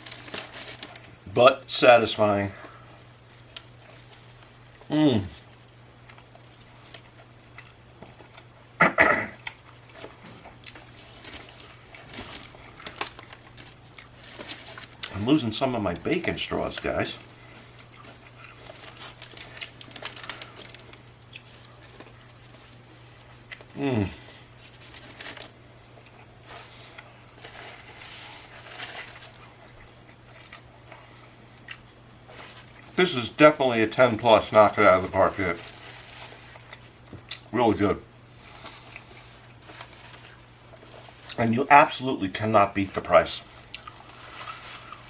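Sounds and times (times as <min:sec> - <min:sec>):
steady low hum: 0:00.0 - 0:45.0
close-up chewing: 0:02.5 - 0:08.8, 0:09.4 - 0:33.0, 0:35.0 - 0:37.5, 0:38.3 - 0:41.6, 0:43.0 - 0:45.0.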